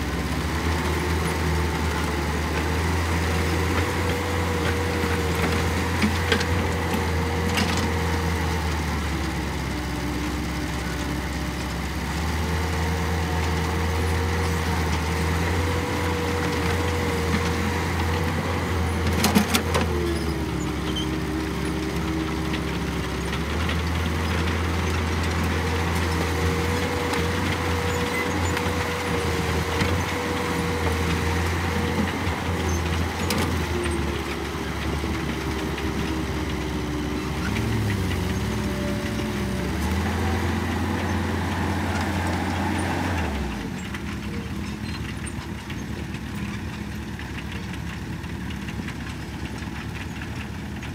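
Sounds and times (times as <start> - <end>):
excavator diesel engine under load: 0.0 - 50.9.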